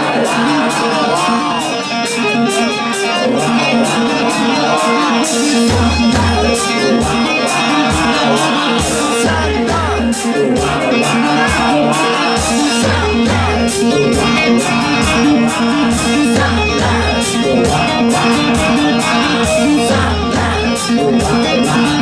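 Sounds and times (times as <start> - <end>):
bass line: 0.0 - 22.0
drum beat with cymbals: 0.0 - 22.0
electric guitar lead: 0.0 - 22.0.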